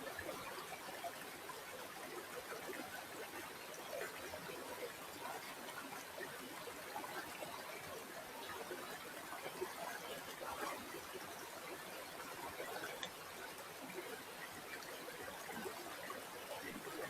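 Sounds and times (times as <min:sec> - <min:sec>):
shallow river water trickling: 0:00.0 - 0:17.0.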